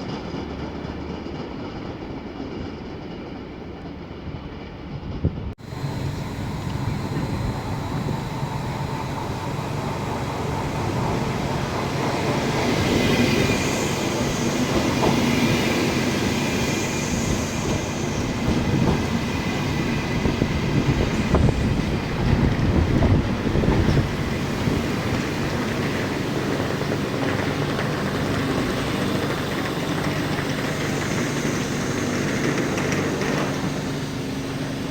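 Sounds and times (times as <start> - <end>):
train rumbling along tracks: 0.0 - 34.9
wheels clicking over rail joints: 5.7 - 34.9.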